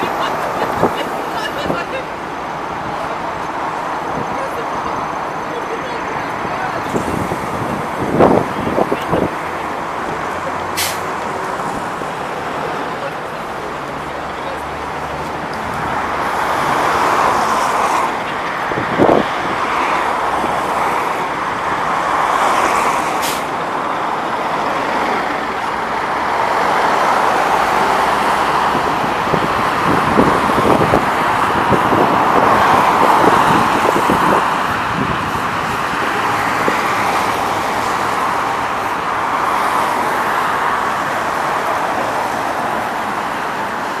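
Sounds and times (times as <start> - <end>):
bus pulling away: 0.0 - 42.1
road traffic: 0.0 - 44.0.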